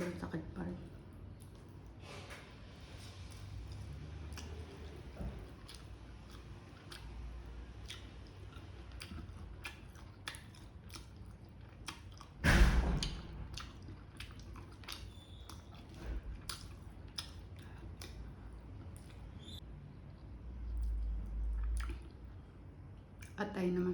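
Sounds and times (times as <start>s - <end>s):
wet chewing mouth sounds: 0.9s - 2.0s, 2.9s - 23.4s.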